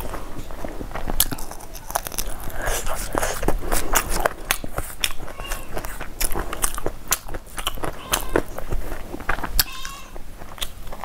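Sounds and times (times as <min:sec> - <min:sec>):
fingers squishing rice and curry: 0:00.0 - 0:11.0
chewing and wet mouth clicks: 0:00.9 - 0:11.0.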